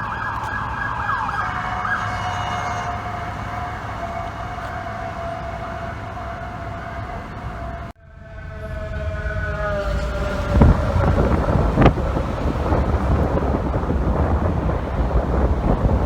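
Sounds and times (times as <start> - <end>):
fire truck engine rumble: 0.0 - 16.0
fire truck siren winding down: 0.0 - 16.0.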